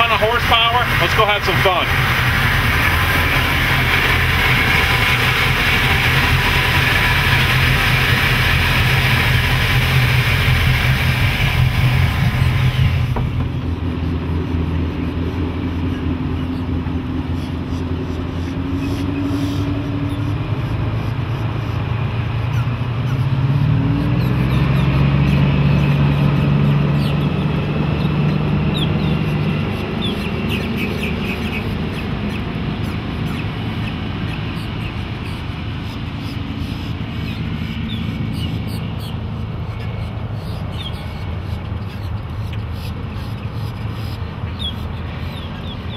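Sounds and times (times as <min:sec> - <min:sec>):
boat engines idling: 0:00.0 - 0:45.9
boat passing at speed: 0:00.0 - 0:45.9.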